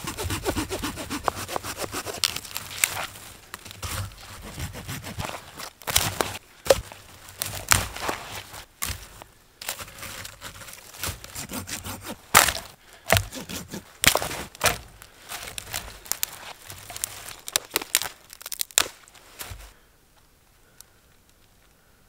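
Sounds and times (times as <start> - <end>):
dry branches snapping: 0.1 - 19.7.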